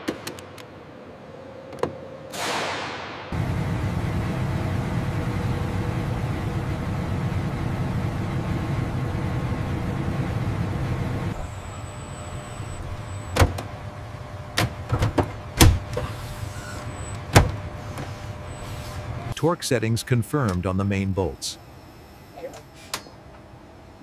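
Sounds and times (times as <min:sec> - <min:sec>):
machine hum with high whine: 0:00.0 - 0:24.0
low mechanical rumble: 0:03.3 - 0:24.0.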